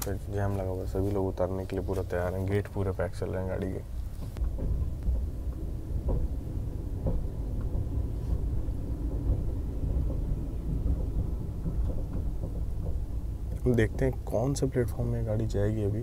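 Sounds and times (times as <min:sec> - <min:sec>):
faint wheel knocks: 0:00.0 - 0:16.0
train rumbling over track: 0:00.0 - 0:16.0.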